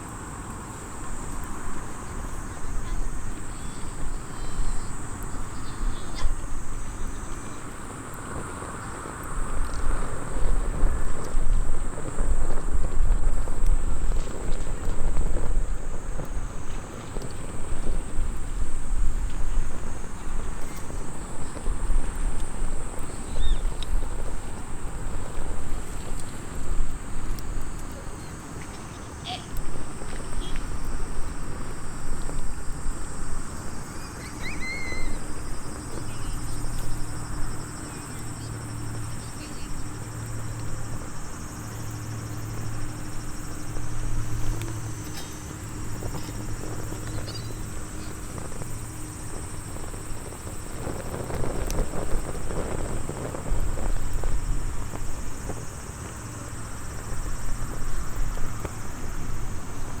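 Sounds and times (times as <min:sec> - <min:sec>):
wood fire crackling: 0:00.0 - 0:34.4, 0:35.1 - 1:00.0
insects chirping: 0:00.0 - 1:00.0.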